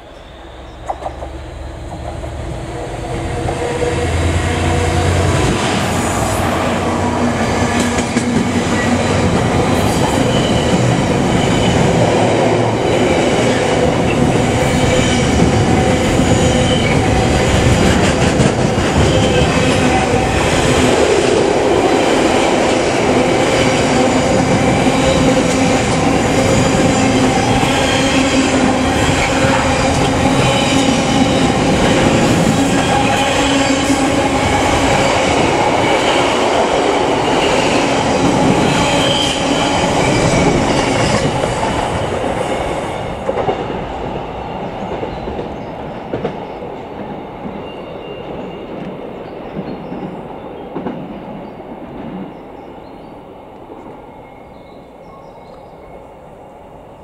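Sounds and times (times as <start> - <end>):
freight train rumbling and clattering: 0.6 - 54.0.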